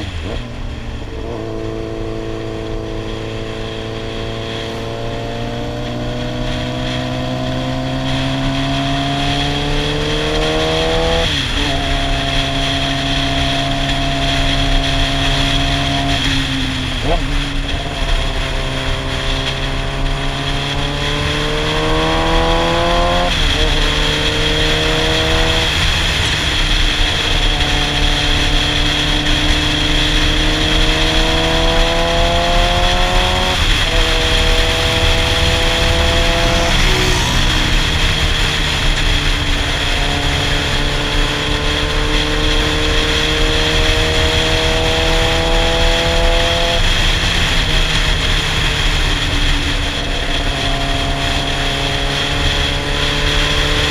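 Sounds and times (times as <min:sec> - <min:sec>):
motorcycle engine revving: 0:00.0 - 0:53.9
wind rush: 0:00.0 - 0:53.9.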